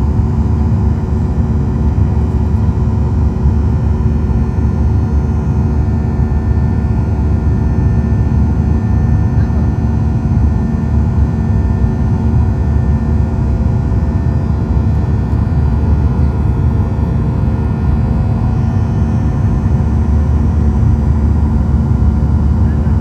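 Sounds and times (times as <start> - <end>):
airliner cabin engine rumble: 0.0 - 23.0
steady hum tones: 0.0 - 23.0.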